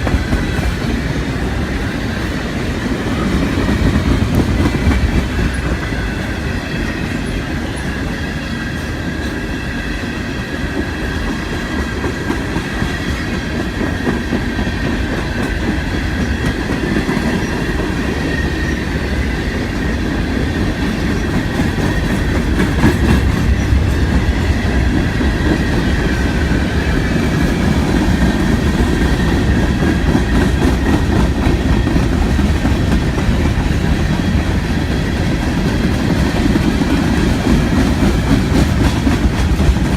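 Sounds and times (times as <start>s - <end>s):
freight train rumbling past: 0.0s - 39.9s
high squeal from train wheels: 0.0s - 39.9s.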